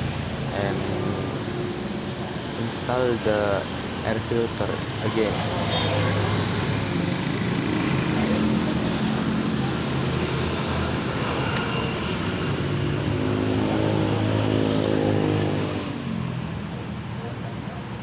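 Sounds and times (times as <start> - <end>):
background traffic: 0.0 - 18.0
vehicle engine humming: 0.0 - 18.0.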